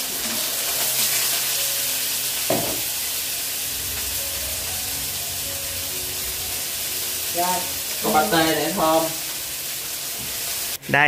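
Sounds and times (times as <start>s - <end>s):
beef sizzling in frying pan: 0.0s - 10.9s.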